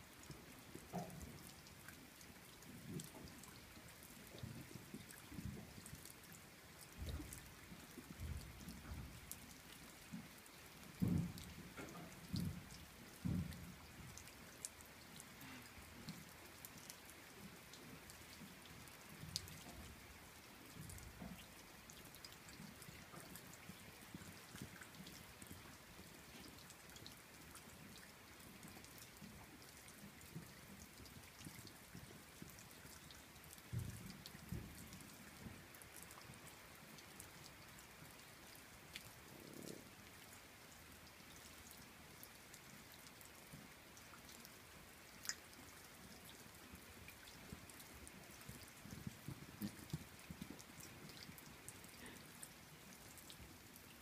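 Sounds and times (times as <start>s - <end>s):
light rain: 0.0s - 54.0s.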